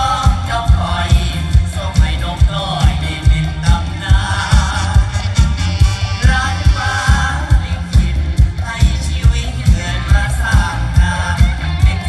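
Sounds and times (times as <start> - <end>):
heavy bass drum beating: 0.0 - 12.0
loud band music over sound system: 0.0 - 12.0
person singing: 0.0 - 12.0.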